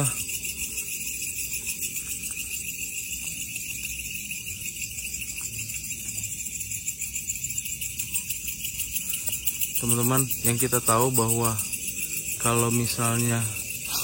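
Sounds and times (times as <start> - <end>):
insects chirping in trills: 0.0 - 14.0.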